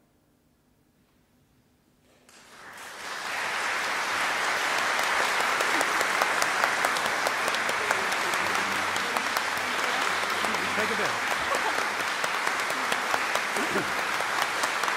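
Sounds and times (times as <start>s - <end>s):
audience applause: 2.3s - 14.9s.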